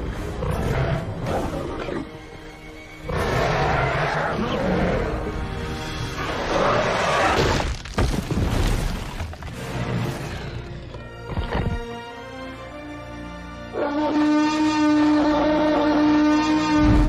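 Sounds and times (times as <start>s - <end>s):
orchestral score: 0.0s - 7.7s, 9.3s - 17.0s.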